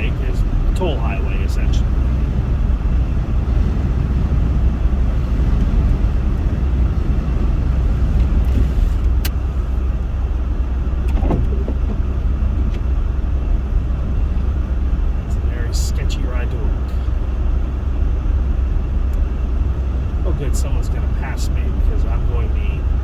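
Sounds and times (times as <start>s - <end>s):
car cabin low rumble: 0.0s - 23.0s.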